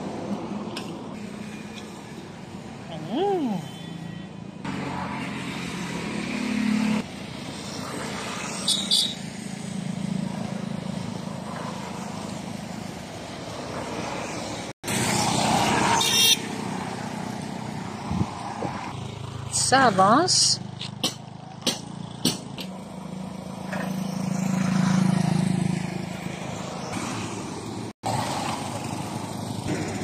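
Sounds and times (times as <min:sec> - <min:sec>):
motorcycles passing: 0:00.0 - 0:30.0.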